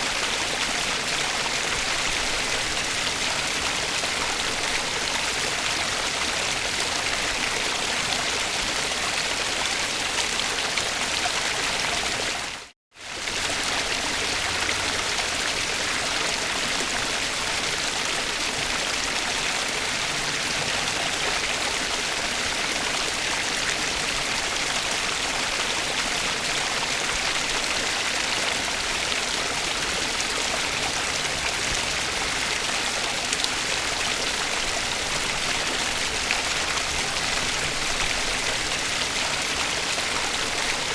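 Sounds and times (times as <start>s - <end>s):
stream rushing: 0.0s - 12.6s, 13.2s - 40.9s.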